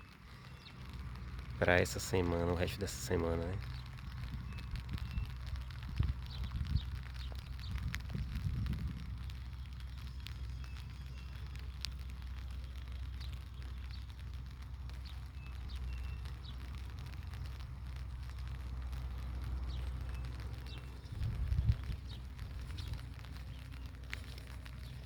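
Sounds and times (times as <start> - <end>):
bird chirps: 0.0 - 8.5, 9.5 - 14.2, 14.9 - 25.0
light rain pattering: 0.0 - 25.0
steady low rumble: 0.0 - 25.0.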